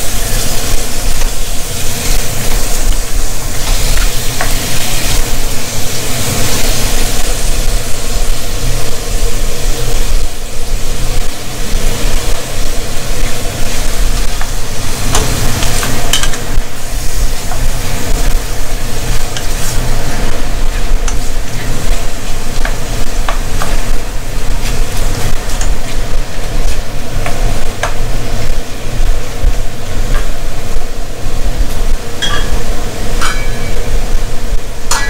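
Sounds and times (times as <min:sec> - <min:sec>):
chicken sizzling in hot oil: 0:00.0 - 0:35.0
steady low hum: 0:00.0 - 0:35.0.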